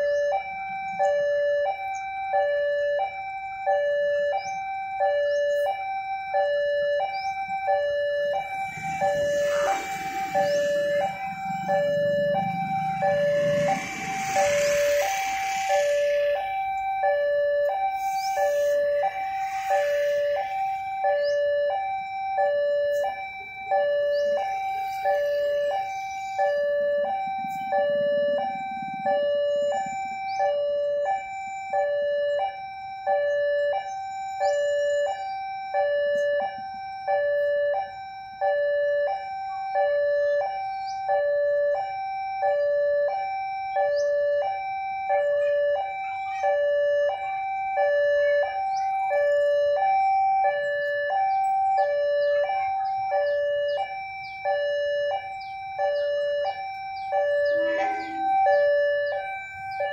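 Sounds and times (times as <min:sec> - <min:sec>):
level crossing warning chime: 0:00.0 - 0:59.9.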